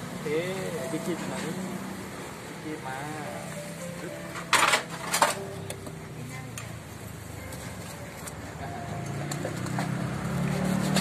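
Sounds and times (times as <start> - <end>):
street stall background noise: 0.0 - 11.0.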